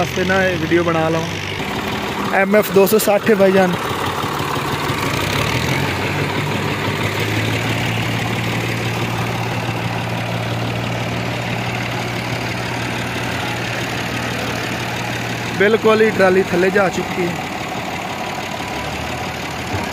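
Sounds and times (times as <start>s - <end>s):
tractor diesel engine idling: 0.0s - 19.9s.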